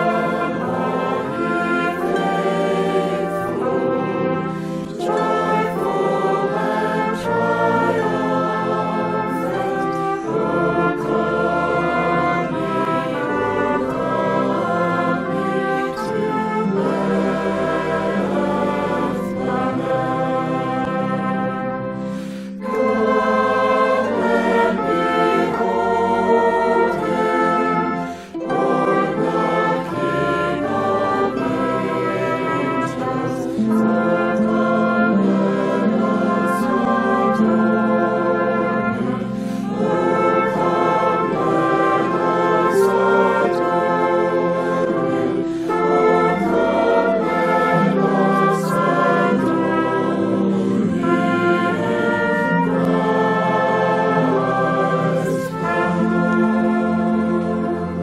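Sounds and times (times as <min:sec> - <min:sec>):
brass and orchestral accompaniment: 0:00.0 - 0:58.0
choir singing a carol: 0:00.0 - 0:58.0.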